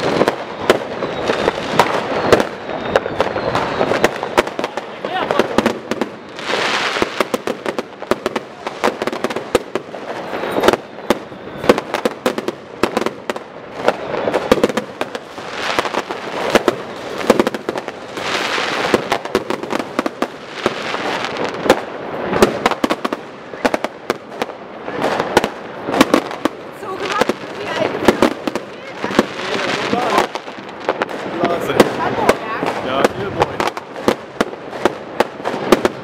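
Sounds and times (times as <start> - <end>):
fireworks bangs: 0.0 - 36.0
fireworks hiss and crackle: 0.0 - 36.0.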